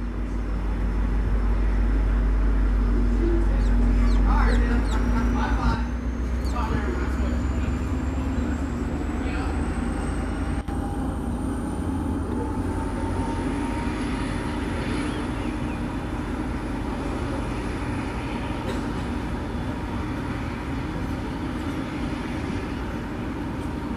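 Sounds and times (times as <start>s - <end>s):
diesel locomotive rumbling: 0.0s - 23.9s.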